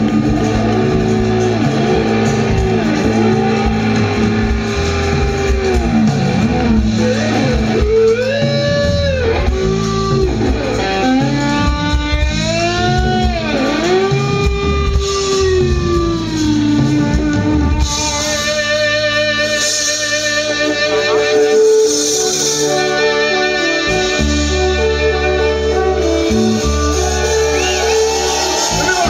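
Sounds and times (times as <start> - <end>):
rock band playing: 0.0 - 29.0
sliding lead melody: 0.0 - 29.0.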